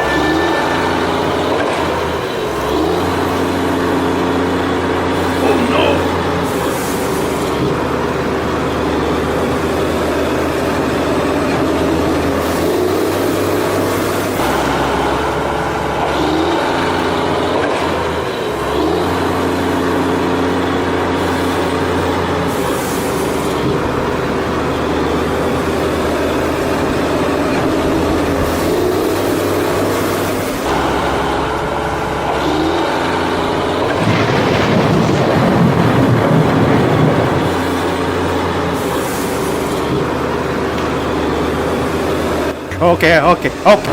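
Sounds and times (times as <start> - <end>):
motor humming: 0.0 - 43.9.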